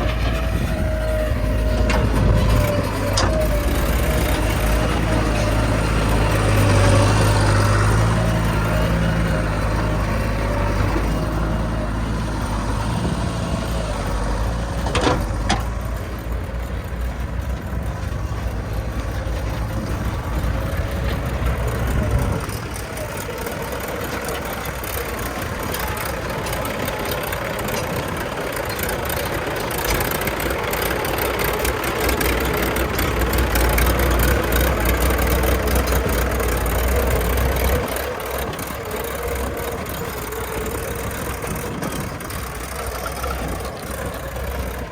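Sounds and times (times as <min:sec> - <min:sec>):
heavy machinery diesel engines: 0:00.0 - 0:44.9.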